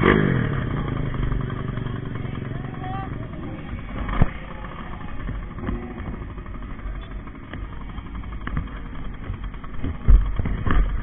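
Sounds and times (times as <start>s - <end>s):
engine knocks: 0.0s - 11.0s
motorcycle engine idling: 0.0s - 11.0s.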